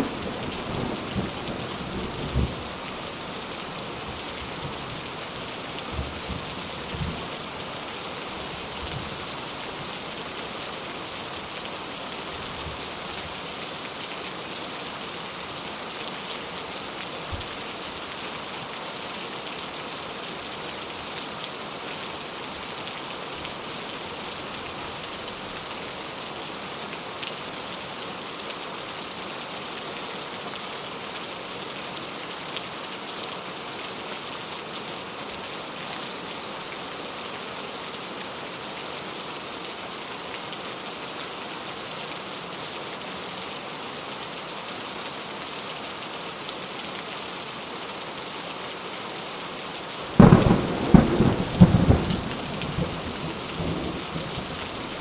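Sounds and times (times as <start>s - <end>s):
rain falling and splashing: 0.0s - 55.0s.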